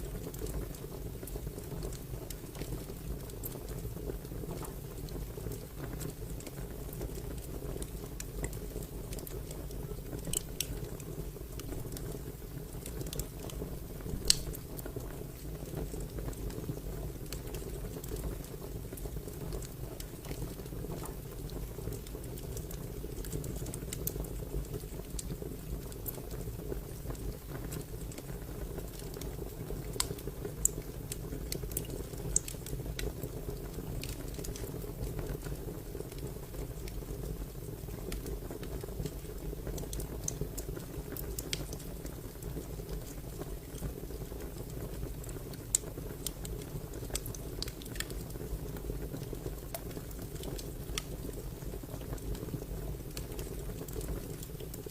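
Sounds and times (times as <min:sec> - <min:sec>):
low rumble of flame: 0:00.0 - 0:54.9
fire pops and snaps: 0:00.1 - 0:54.9.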